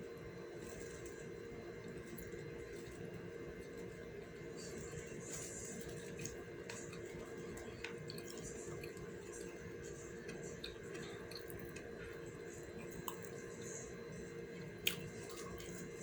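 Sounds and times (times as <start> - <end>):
steady low hum: 0.0 - 16.0
person chewing food: 1.8 - 16.0.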